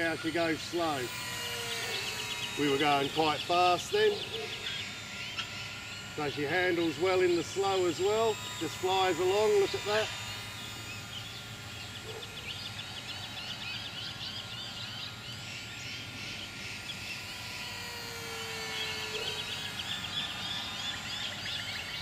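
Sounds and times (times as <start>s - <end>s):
faint steady motor whine: 0.0s - 22.0s.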